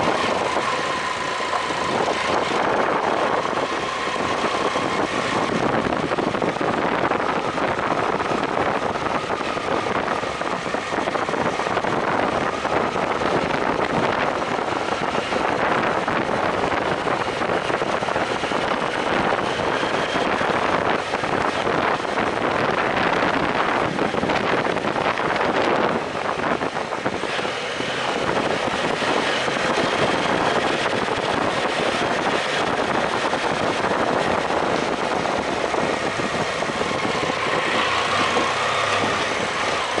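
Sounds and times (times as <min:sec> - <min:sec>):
motorcycle engine running: 0:00.0 - 0:40.0
wind noise on microphone: 0:00.0 - 0:40.0.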